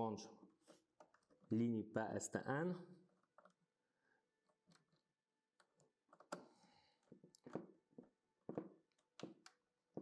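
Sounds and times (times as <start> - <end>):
wire handling sounds: 0.4 - 1.7, 3.0 - 10.0.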